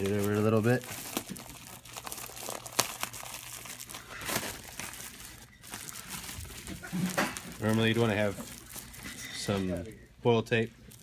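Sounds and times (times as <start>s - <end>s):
plastic duct jacket crinkling: 0.0s - 11.0s.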